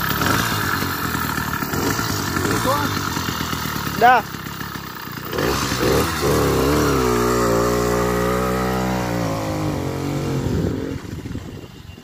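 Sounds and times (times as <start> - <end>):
two-stroke engine running: 0.0 - 12.0.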